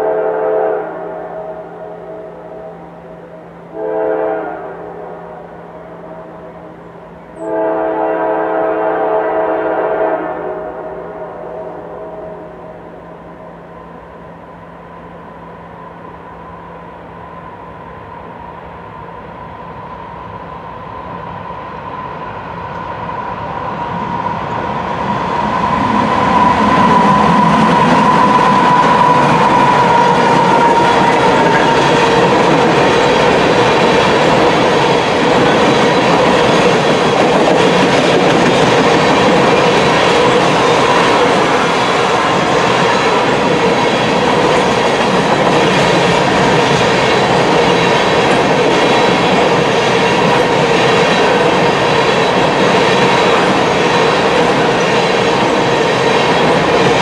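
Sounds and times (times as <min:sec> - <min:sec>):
diesel locomotives passing: 0:00.0 - 0:57.0.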